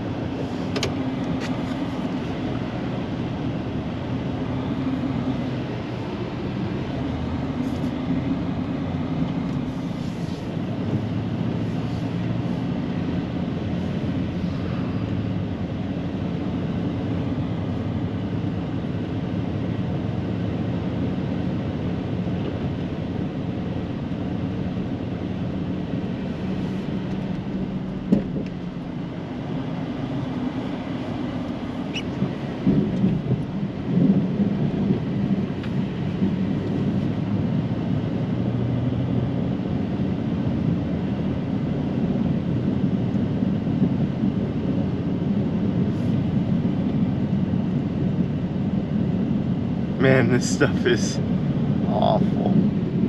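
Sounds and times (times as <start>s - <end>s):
truck engine droning: 0.0s - 53.0s.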